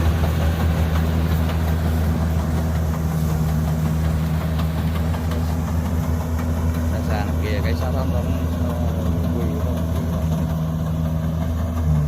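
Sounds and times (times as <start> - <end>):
combine harvester diesel engine droning: 0.0 - 12.0.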